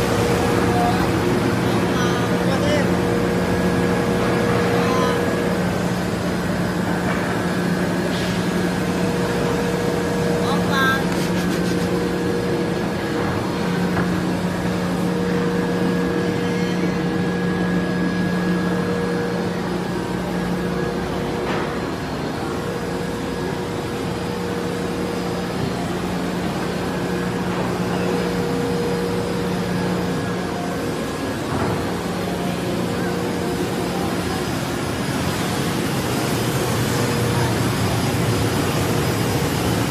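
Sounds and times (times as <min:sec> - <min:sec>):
woodworking machinery droning: 0:00.0 - 0:39.9.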